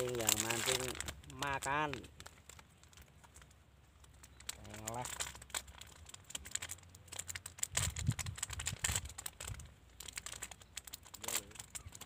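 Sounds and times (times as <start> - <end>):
paper wrapper crinkling: 0.0 - 12.0.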